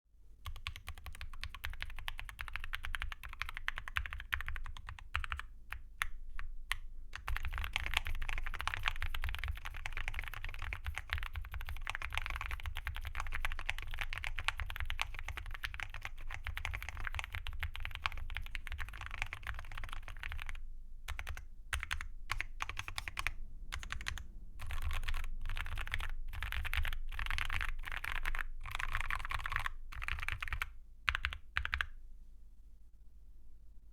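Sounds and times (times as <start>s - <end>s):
mechanical keyboard typing: 0.4s - 31.9s.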